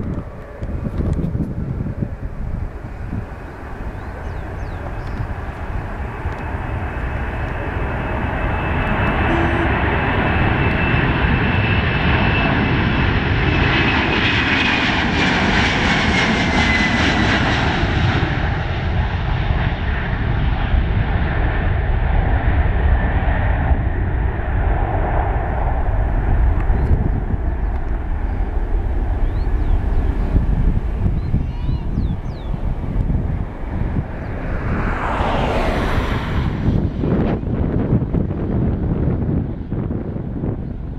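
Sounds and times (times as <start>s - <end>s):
deep rumble: 0.0s - 40.9s
high jet whine: 0.0s - 40.9s
jet engines roaring at takeoff: 0.0s - 40.9s.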